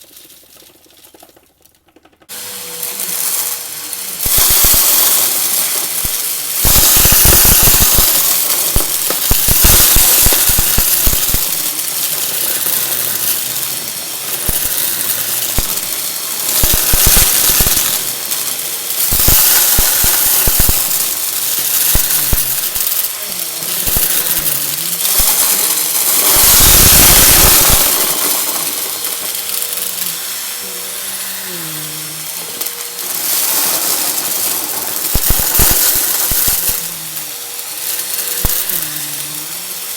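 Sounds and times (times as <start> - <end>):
confetti crackling up vacuum intake: 0.0 - 39.9
vacuum cleaner running: 2.2 - 39.9.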